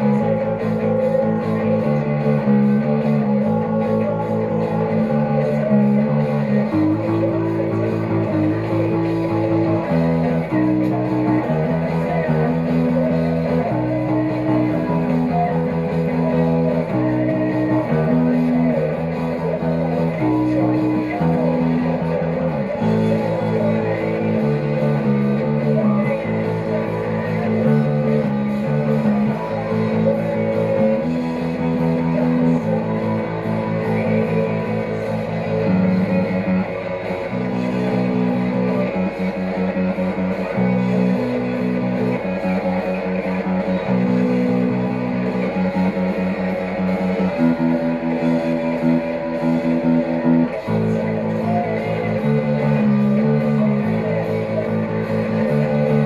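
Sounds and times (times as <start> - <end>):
punk rock electric guitar and bass: 0.0 - 56.0.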